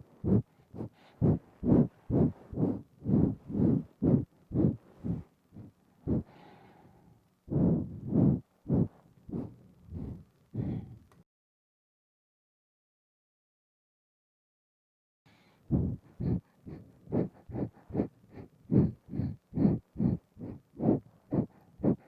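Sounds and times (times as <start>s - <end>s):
quick sharp nose breaths: 0.0s - 11.1s, 15.3s - 22.0s.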